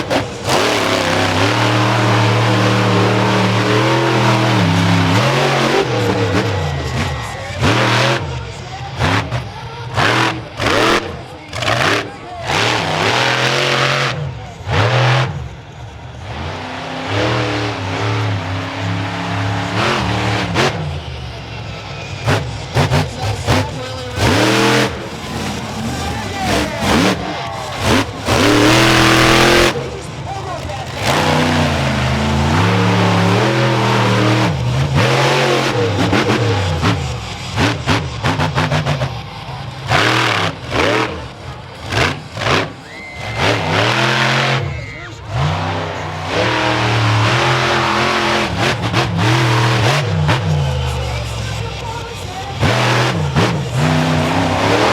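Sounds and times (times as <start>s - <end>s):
truck engine revving hard: 0.0s - 54.9s.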